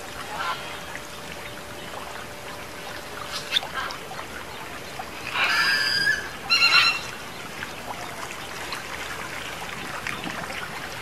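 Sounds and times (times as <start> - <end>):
fountain water trickling: 0.0 - 11.0.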